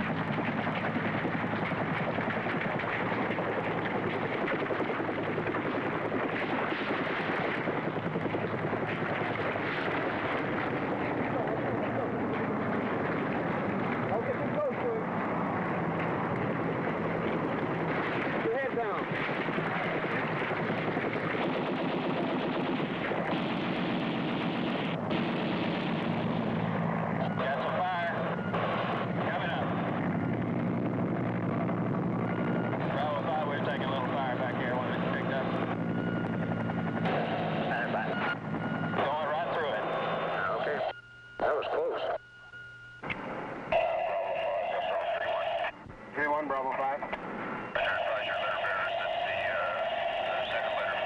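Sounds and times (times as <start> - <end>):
helicopter rotor and turbine: 0.0 - 42.2, 43.0 - 51.0.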